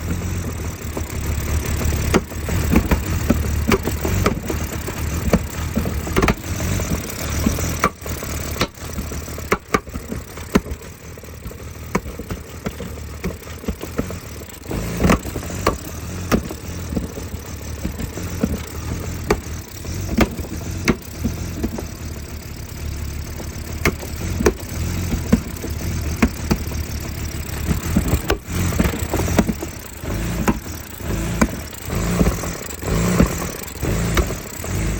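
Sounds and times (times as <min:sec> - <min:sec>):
car engine idling roughly: 0:00.0 - 0:34.9
sharp engine intake pops: 0:00.9 - 0:22.0, 0:23.4 - 0:34.9.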